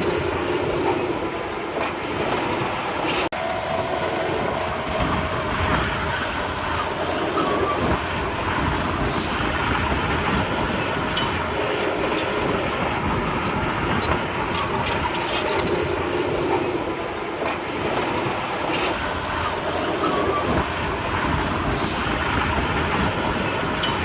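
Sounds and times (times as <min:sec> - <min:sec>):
bulldozer diesel engine running: 0:00.0 - 0:24.0
steel tracks clanking and squeaking: 0:00.0 - 0:24.0.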